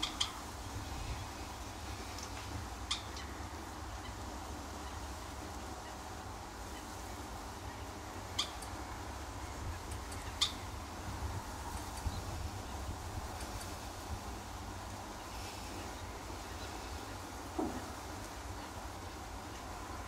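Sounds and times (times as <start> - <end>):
small birds calling: 0.0 - 20.0.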